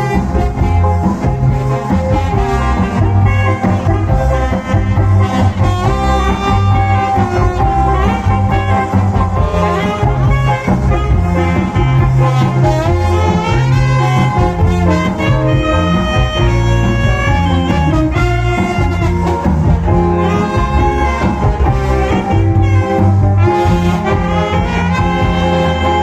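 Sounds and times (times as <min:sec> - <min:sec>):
cha-cha music with brass: 0:00.0 - 0:26.0.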